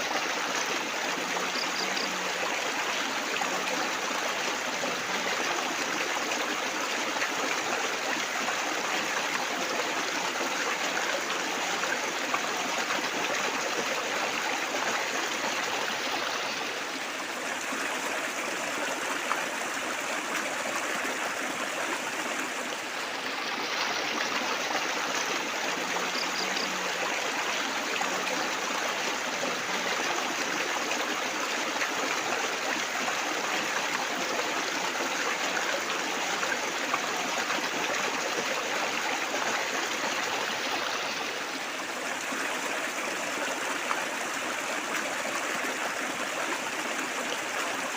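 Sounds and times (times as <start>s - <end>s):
running water trickling and splashing: 0.0s - 47.9s.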